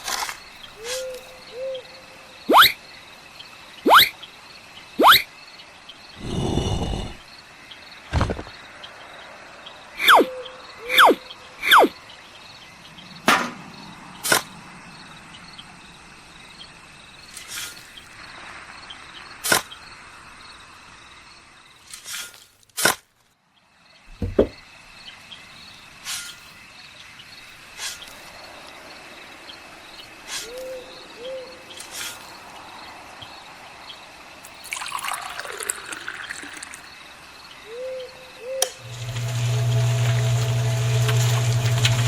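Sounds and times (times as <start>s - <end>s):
cricket-like chirring: 0.0s - 22.3s, 23.6s - 38.6s.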